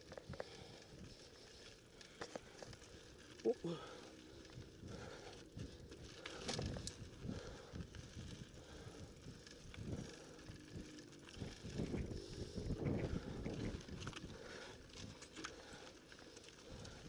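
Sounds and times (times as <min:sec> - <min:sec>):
bike rattling over bumps: 0:00.0 - 0:17.0
bike tyres crunching on gravel: 0:00.0 - 0:17.0.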